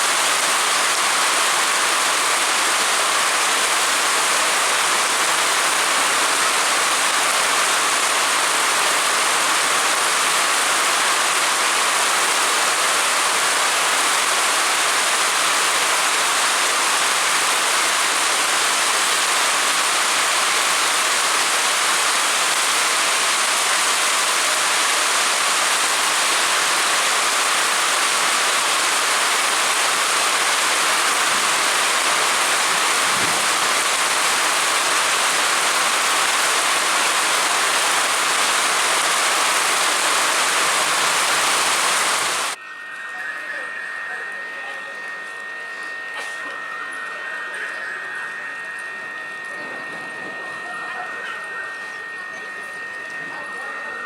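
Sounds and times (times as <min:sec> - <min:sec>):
heavy rain falling: 0:00.0 - 0:42.6, 0:47.3 - 0:54.0.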